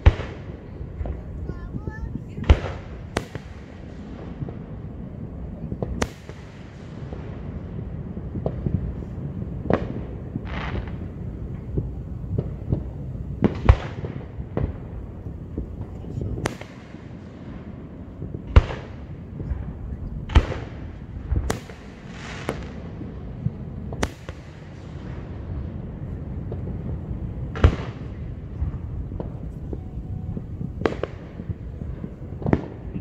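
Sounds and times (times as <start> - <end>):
fireworks bursting with echo: 0.0 - 33.0
low rumble: 0.0 - 33.0.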